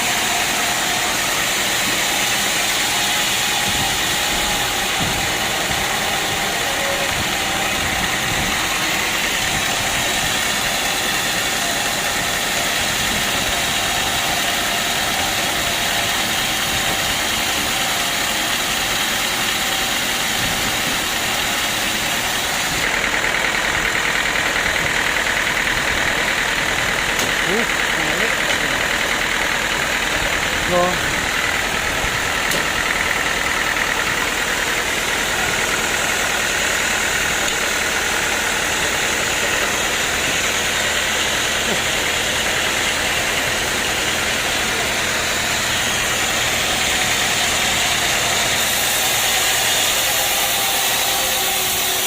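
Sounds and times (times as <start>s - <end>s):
sawmill saw running: 0.0s - 52.0s.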